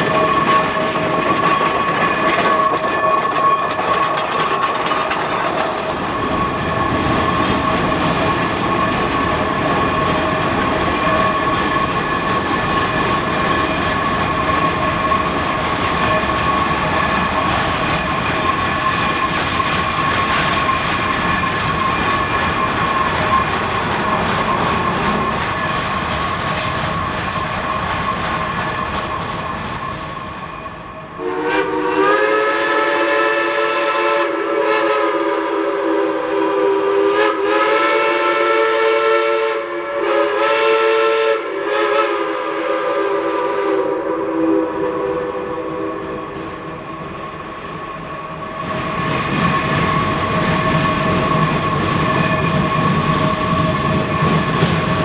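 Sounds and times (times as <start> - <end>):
rail noise: 0.0 - 55.0
steam locomotive working: 0.0 - 55.0.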